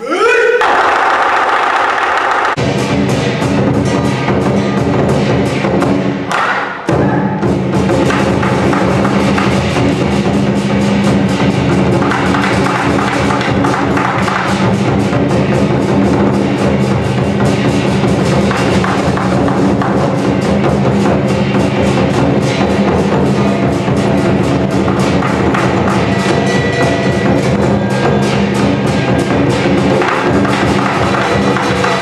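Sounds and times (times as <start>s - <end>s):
cymbals clashing: 0.0s - 32.0s
large drum beaten fast: 0.6s - 32.0s.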